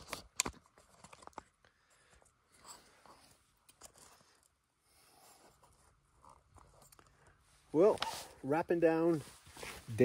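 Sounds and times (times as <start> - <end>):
faint rustling: 0.8 - 10.0.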